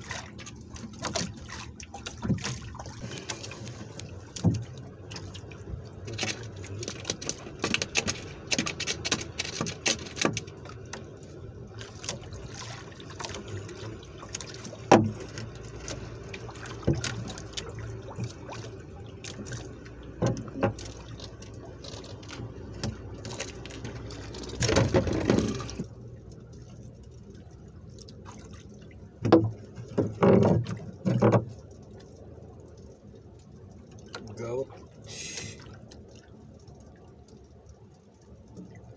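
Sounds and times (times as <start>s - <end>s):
water splashing rush: 0.0s - 33.0s, 33.6s - 37.4s
water sloshing against boat hull: 0.0s - 38.9s.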